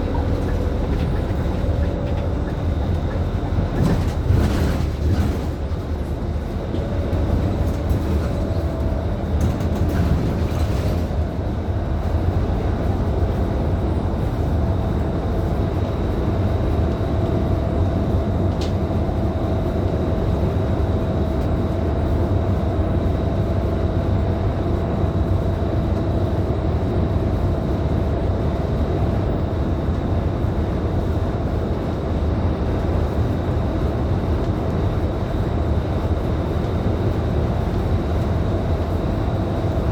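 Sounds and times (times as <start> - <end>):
bus diesel engine drone: 0.0 - 39.9
road and tyre rumble: 0.0 - 39.9.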